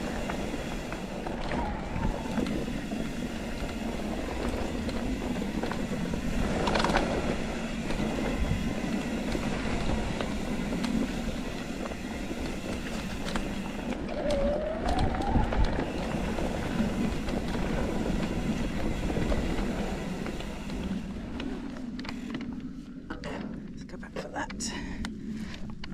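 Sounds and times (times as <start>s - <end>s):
bike rattling and knocking: 0.0s - 22.5s
bike tyres on dirt trail: 0.0s - 23.7s, 24.7s - 25.9s.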